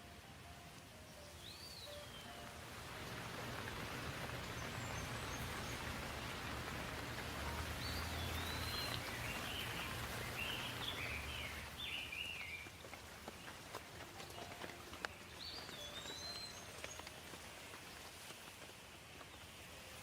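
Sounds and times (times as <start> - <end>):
rain falling: 0.0 - 20.0
birds chirping: 0.6 - 20.0.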